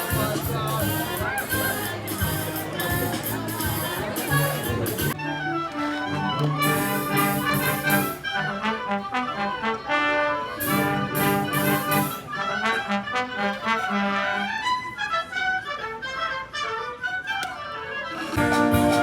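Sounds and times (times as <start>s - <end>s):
brass band music: 0.0s - 19.0s.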